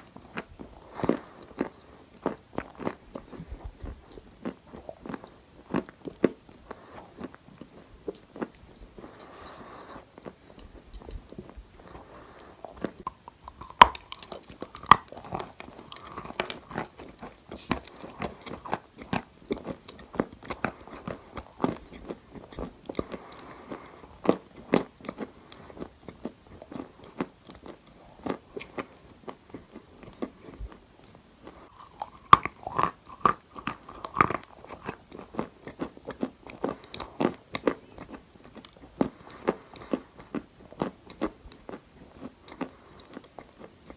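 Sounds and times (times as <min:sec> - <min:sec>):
person chewing crunchy clay: 0:00.0 - 0:43.9.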